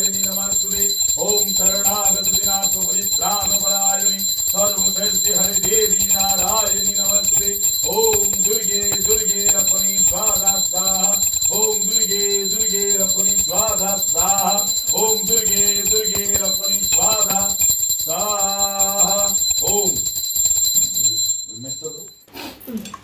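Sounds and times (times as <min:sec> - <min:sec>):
hand bell ringing: 0:00.0 - 0:22.3.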